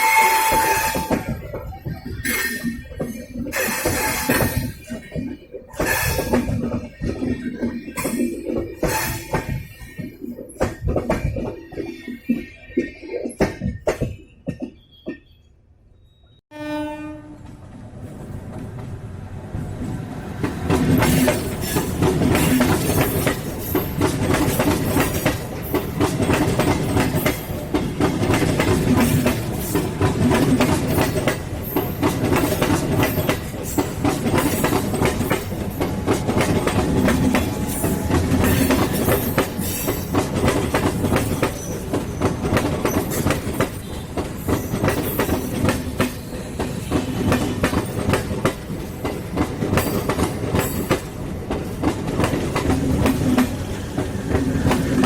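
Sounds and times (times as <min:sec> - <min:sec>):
train wheels clattering over rail joints: 0:00.3 - 0:14.8, 0:20.4 - 0:55.0.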